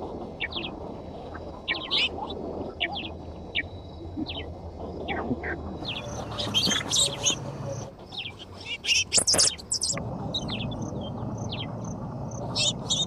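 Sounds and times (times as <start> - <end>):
steady low rumble: 0.0 - 13.0
birds chirping: 0.4 - 13.0.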